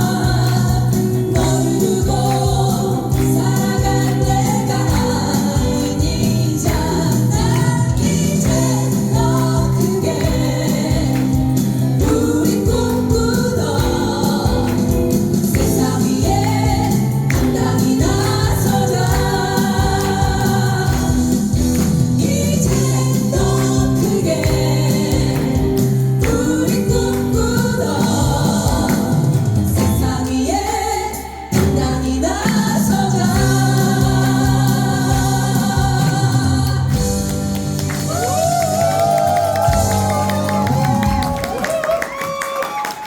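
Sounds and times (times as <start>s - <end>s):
instrumental accompaniment with beat: 0.0s - 30.8s, 31.6s - 42.2s
vocal group singing: 0.0s - 42.2s.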